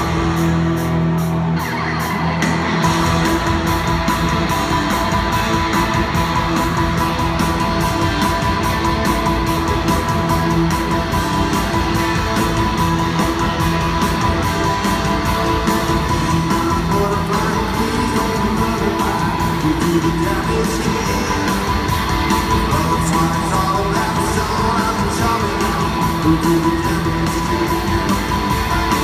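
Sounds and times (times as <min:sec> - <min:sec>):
bass guitar: 0:00.0 - 0:29.0
electric guitars: 0:00.0 - 0:29.0
drum beat: 0:02.6 - 0:29.0.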